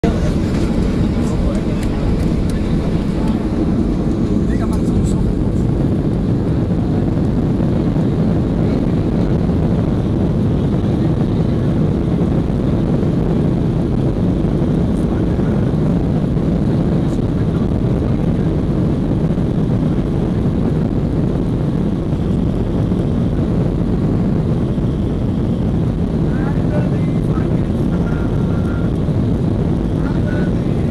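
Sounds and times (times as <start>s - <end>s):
jet engines rumbling in cabin: 0.0s - 30.9s.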